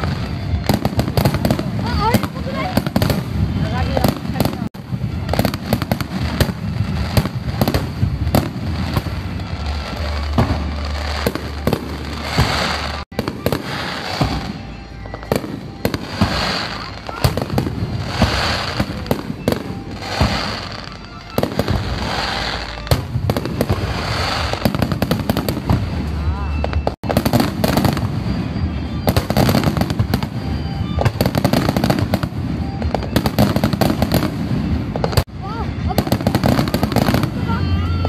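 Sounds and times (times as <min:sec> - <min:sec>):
fireworks bursting: 0:00.0 - 0:38.0.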